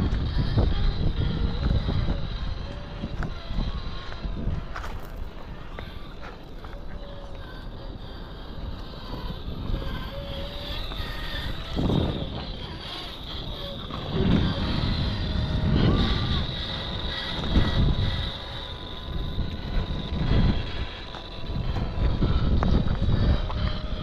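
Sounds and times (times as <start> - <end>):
rc car motor and gears whining: 0.0 - 24.0
wind buffeting microphone: 0.0 - 24.0.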